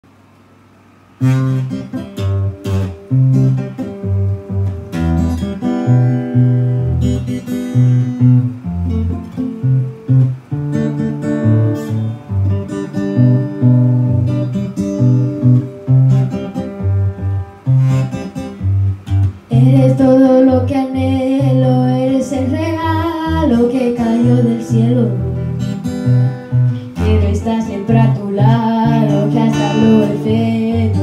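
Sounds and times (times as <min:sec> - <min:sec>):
acoustic guitar playing: 0:01.1 - 0:31.0.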